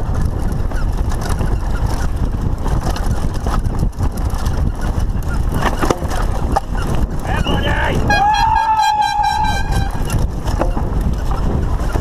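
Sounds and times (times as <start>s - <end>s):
bike knocking on bumps: 0.0s - 12.0s
bike rumbling and rattling: 0.0s - 12.0s
wind on microphone: 0.0s - 12.0s.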